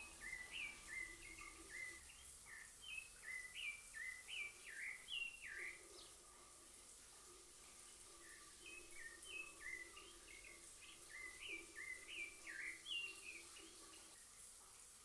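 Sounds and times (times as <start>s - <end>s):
bird chirping: 0.0s - 6.6s, 7.6s - 14.5s
faint steady hum: 0.0s - 15.0s.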